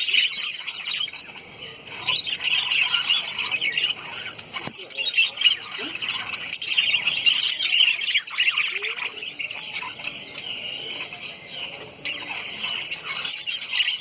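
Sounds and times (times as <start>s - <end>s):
lovebirds chirping and squawking: 0.0s - 14.0s.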